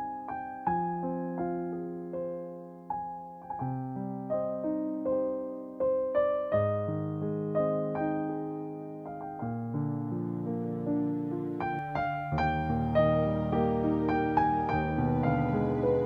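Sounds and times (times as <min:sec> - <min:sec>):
low sustained piano chords: 0:00.0 - 0:16.0
slow piano melody: 0:00.0 - 0:16.0.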